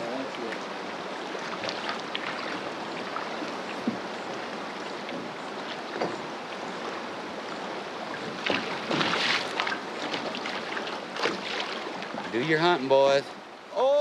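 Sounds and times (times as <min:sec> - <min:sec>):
river water rushing: 0:00.0 - 0:14.0
water lapping at a boat: 0:00.0 - 0:14.0
water splashes: 0:00.0 - 0:14.0.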